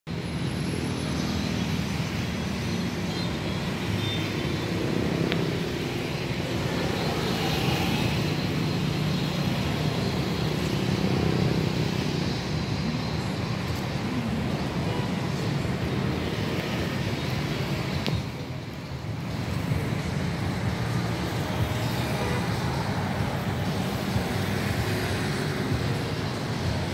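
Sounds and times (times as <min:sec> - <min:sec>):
background traffic hum: 0:00.1 - 0:26.9.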